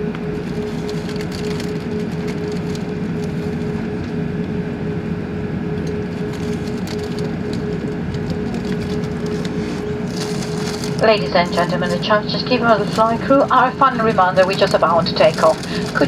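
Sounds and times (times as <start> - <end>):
aircraft cabin rumble: 0.0 - 16.0.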